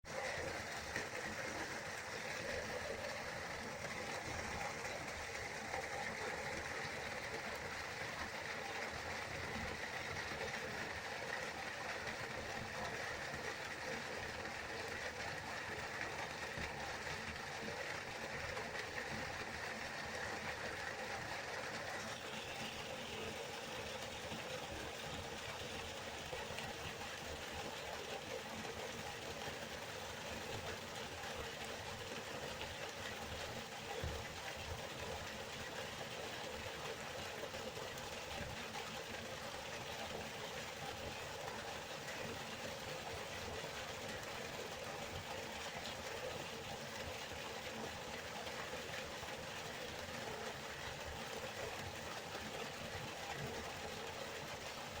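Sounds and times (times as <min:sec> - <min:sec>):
river water flowing: 0:00.1 - 0:55.0.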